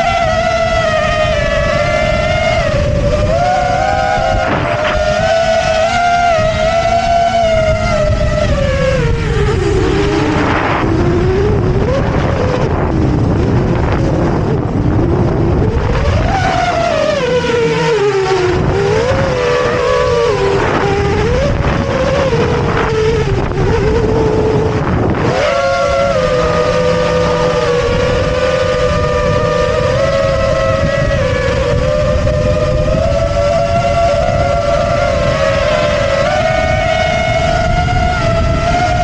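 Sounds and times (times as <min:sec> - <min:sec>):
quadcopter motors whining: 0:00.0 - 0:39.0
wind on microphone: 0:00.0 - 0:39.0.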